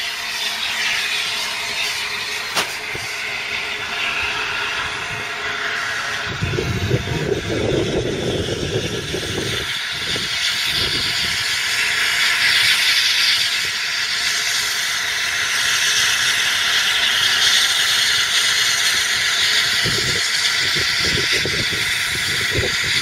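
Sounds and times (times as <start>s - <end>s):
steam locomotive hiss: 0.0s - 23.0s.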